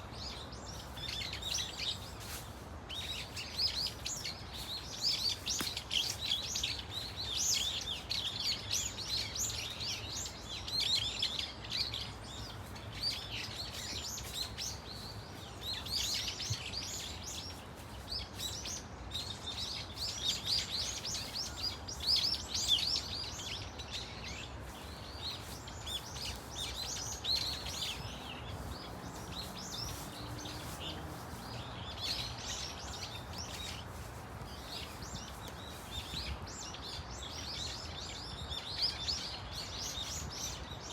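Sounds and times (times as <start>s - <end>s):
birds calling: 0.0s - 40.9s.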